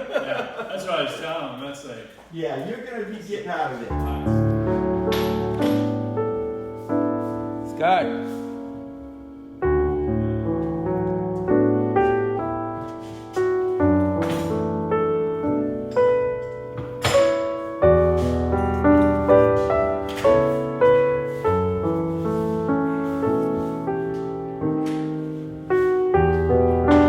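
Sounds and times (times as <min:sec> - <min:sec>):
piano music: 0:03.9 - 0:27.0.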